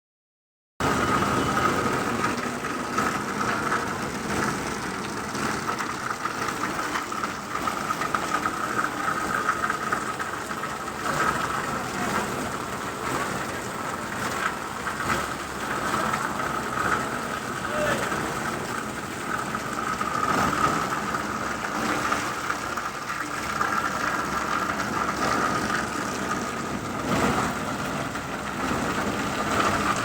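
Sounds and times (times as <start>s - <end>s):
heavy rain pouring: 0.8s - 30.0s.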